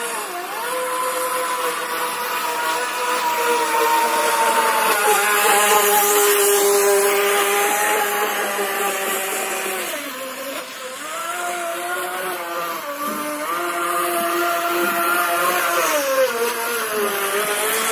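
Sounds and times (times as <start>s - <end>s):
electric boat motor whining: 0.0s - 17.9s.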